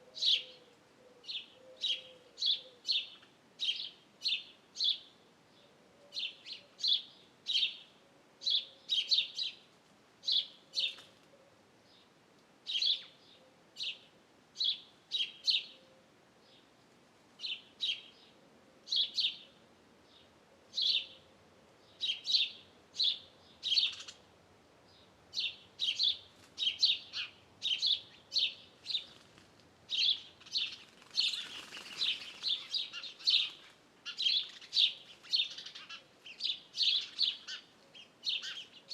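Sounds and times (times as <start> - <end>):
small birds chirping: 0.0 - 16.8, 17.4 - 38.9.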